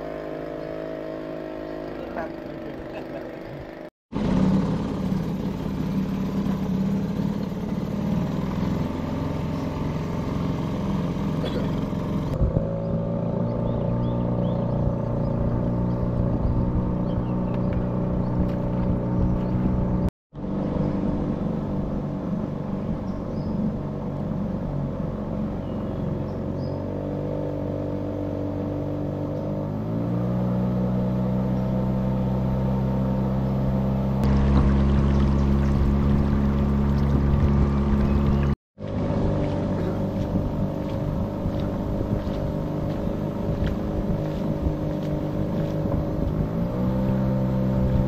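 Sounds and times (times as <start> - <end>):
water rushing along hull: 0.0 - 18.6, 20.4 - 48.0
small boat motor running: 0.0 - 48.0.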